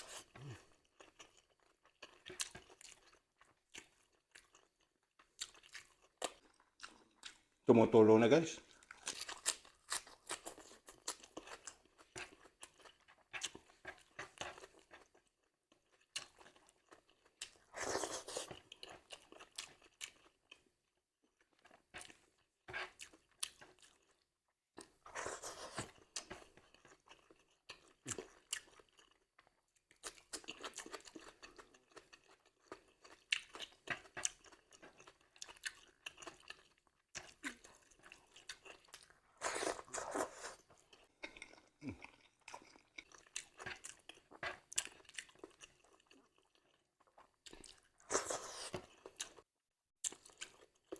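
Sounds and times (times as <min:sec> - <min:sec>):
chewing and crunching crisp food: 0:00.0 - 0:07.7, 0:08.6 - 0:50.9.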